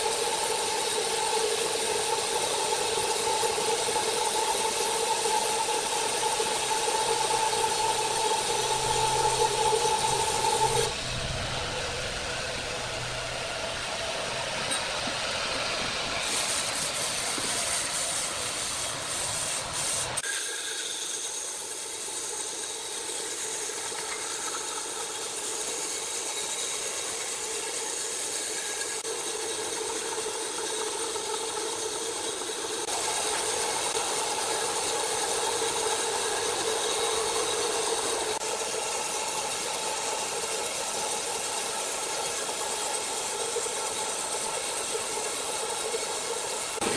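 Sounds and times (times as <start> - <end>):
sawmill machinery running: 0.0 - 46.9.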